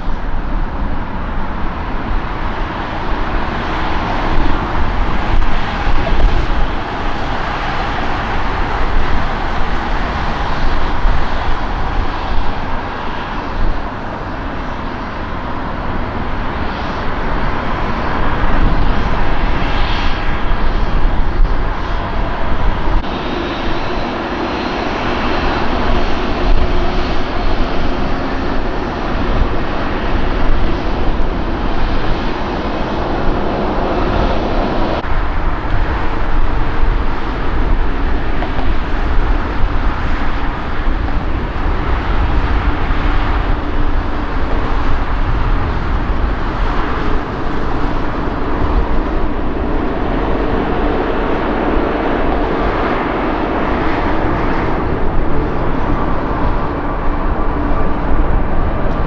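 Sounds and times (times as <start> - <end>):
jet engines rushing and whining: 0.0 - 59.0.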